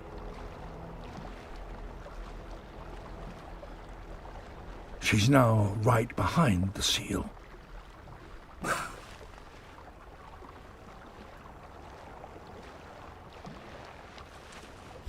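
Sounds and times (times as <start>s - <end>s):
sea water lapping: 0.0s - 15.0s
water swishing: 0.0s - 15.0s.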